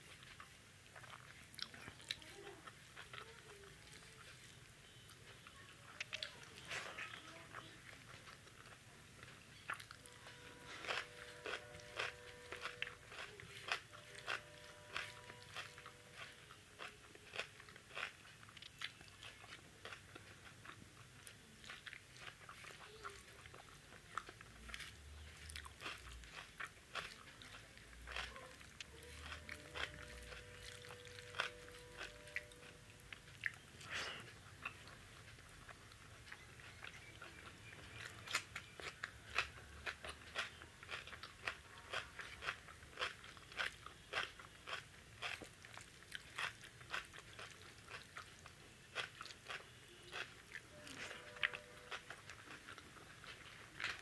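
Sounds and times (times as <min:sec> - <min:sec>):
person chewing and lip-smacking: 0:00.0 - 0:54.0.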